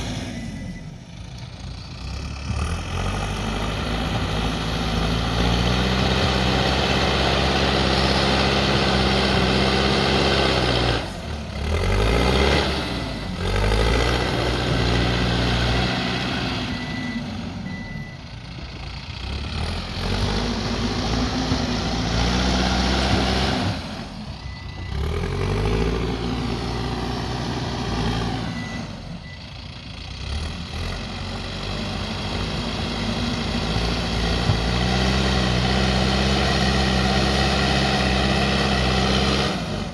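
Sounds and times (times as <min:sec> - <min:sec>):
diesel engine revving under load: 0:00.0 - 0:39.9.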